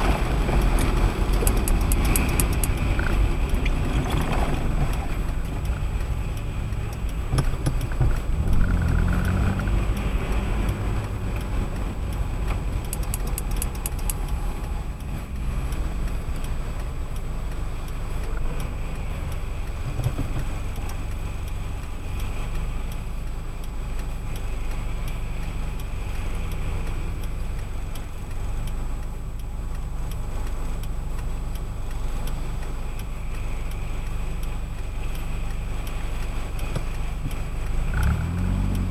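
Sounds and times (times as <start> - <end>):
car tyres on wet road: 0.0 - 38.9
light ticks: 0.0 - 38.9.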